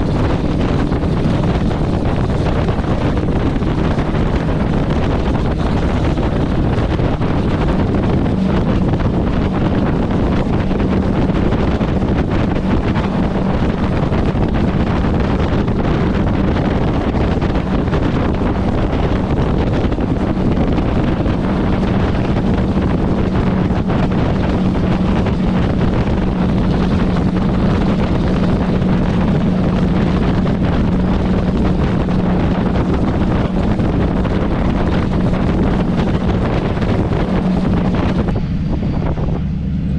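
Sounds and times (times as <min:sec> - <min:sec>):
road rumble: 0:00.0 - 0:39.9
truck engine droning: 0:00.0 - 0:39.9
wind noise on microphone: 0:00.0 - 0:39.9.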